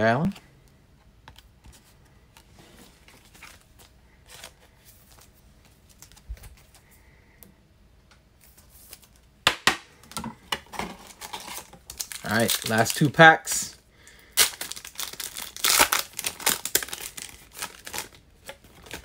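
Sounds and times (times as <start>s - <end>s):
cards and packaging rustling: 0.0s - 6.9s, 10.0s - 19.0s.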